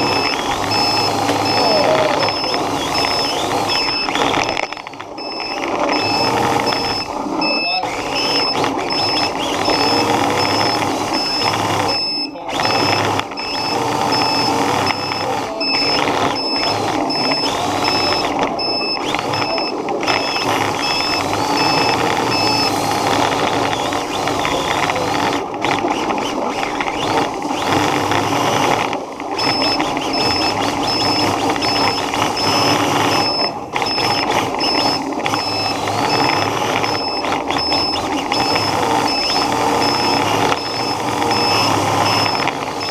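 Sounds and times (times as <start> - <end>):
radio-controlled car motor whirring: 0.0 - 42.9.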